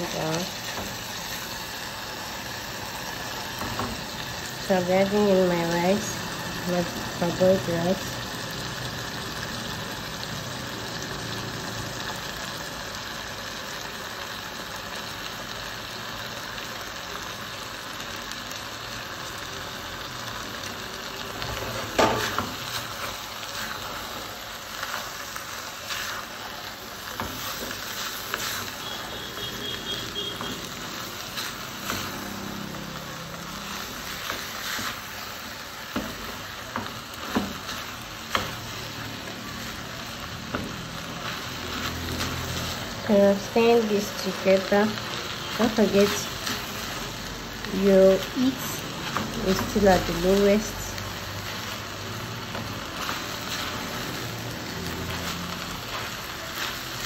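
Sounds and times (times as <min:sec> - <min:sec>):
sauce sizzling in pot: 0:00.0 - 0:57.0.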